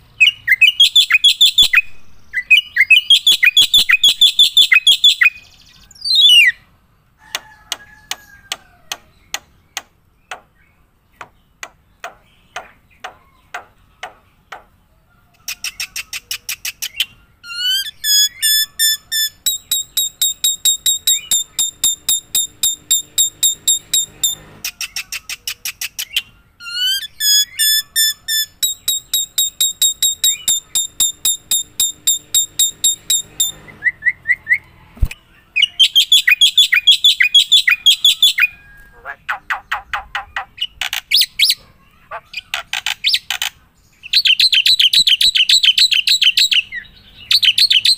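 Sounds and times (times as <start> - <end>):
bird ticking and chirping: 0.2 - 6.5, 7.2 - 14.8, 15.4 - 34.7, 35.6 - 47.9.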